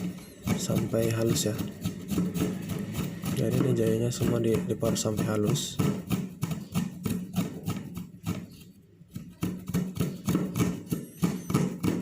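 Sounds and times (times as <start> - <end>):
ginger grating on grater: 0.0 - 10.2.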